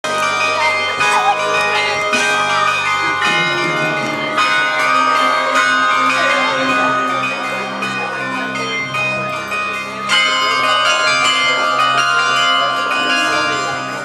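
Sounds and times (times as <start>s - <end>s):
tuned bells ringing: 0.0s - 14.0s.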